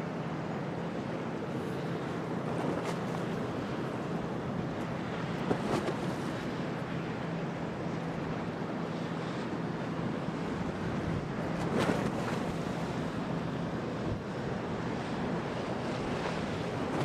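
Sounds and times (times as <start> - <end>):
waves: 0.0 - 17.0
wind: 0.0 - 17.0.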